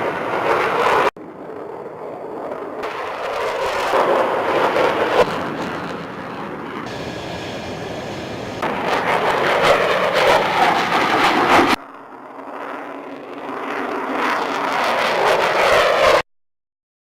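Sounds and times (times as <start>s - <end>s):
fighter jet engines roaring: 0.0s - 16.2s.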